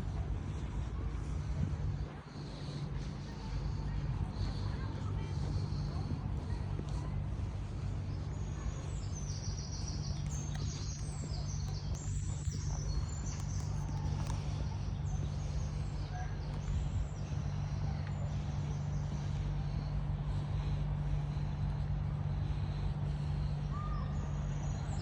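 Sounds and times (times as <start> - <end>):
small birds chirping: 0.0 - 25.0
steady low hum: 0.0 - 25.0.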